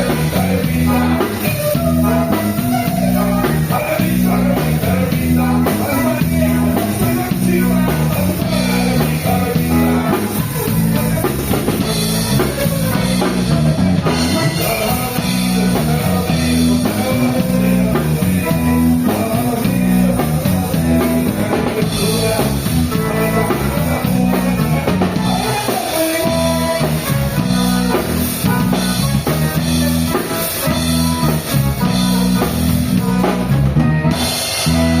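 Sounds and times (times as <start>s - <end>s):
drum kit: 0.0s - 35.0s
electric guitar: 0.0s - 35.0s
person singing: 0.0s - 35.0s.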